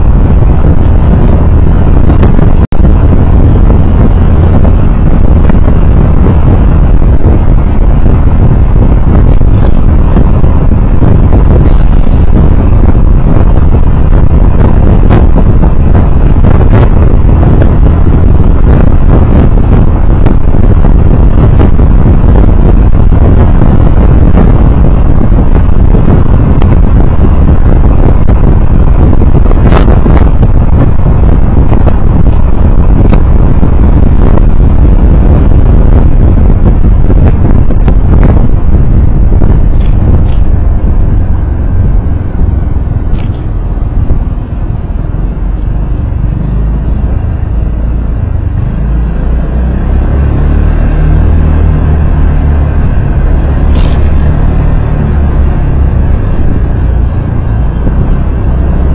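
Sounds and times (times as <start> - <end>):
vehicle road and wind rumble: 0.0 - 58.9.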